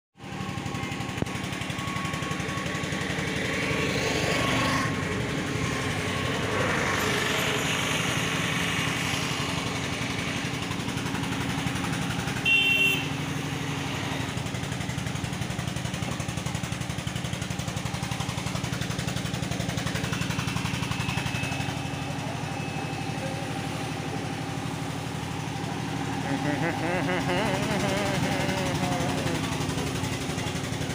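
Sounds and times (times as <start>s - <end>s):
engine idling: 0.2s - 30.9s
traffic noise: 0.2s - 30.9s.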